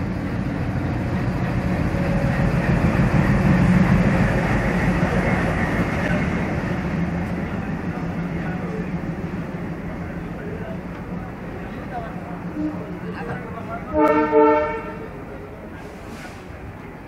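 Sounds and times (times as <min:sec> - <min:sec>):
diesel locomotive engine droning: 0:00.0 - 0:17.0
train coaches rolling by: 0:00.0 - 0:17.0.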